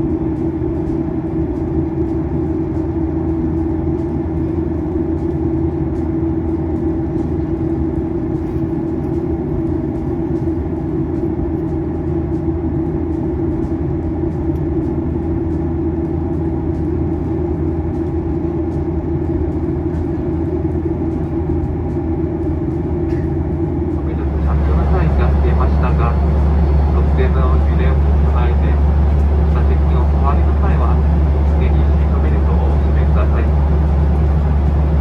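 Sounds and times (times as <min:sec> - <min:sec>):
airliner cabin drone: 0:00.0 - 0:35.0.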